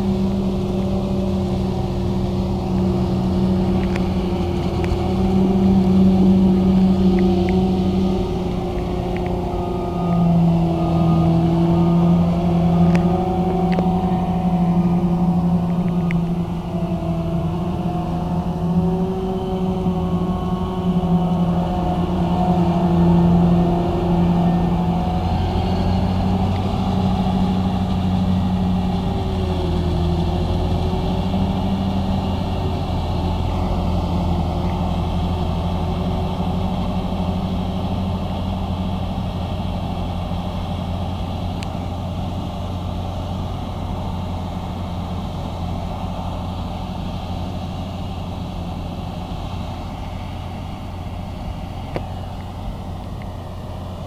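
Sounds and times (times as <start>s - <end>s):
forage harvester engine drone: 0.0s - 54.0s.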